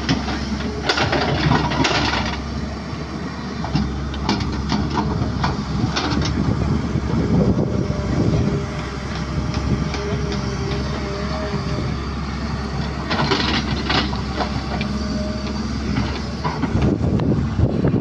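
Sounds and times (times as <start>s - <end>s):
excavator diesel engine: 0.0s - 18.0s.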